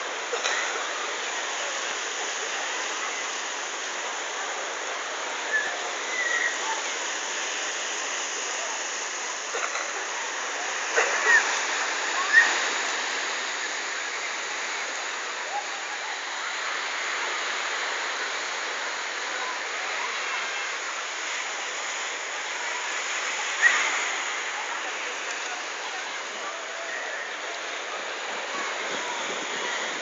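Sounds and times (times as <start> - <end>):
faint distant voices: 0.0 - 30.0
surf washing on pebble beach: 0.0 - 30.0.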